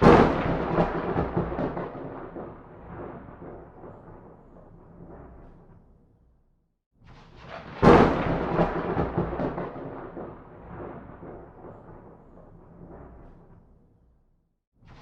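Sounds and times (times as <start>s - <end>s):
thunder rumbling and cracking: 0.0s - 5.9s, 7.4s - 13.8s.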